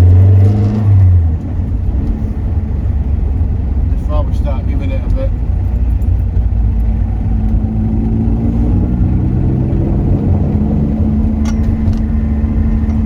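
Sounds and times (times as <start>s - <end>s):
car engine idling: 1.0s - 13.0s.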